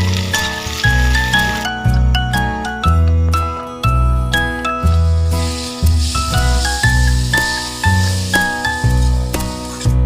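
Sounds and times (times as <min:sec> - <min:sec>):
high melody over bass with beat: 0:00.9 - 0:10.0.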